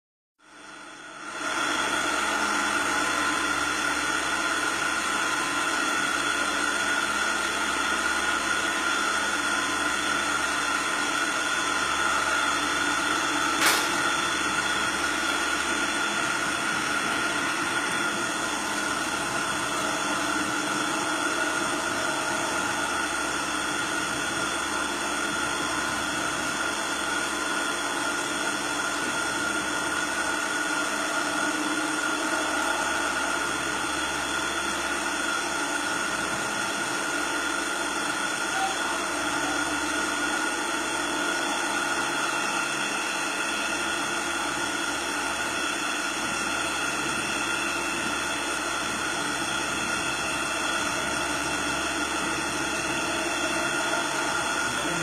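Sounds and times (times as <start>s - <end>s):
operating table motor humming: 0.6s - 55.0s.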